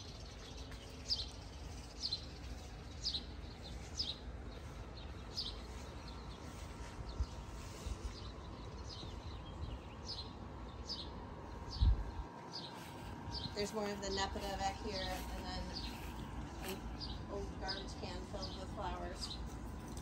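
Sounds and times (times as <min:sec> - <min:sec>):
low background rumble: 0:00.0 - 0:20.0
songbird chirping: 0:00.0 - 0:20.0.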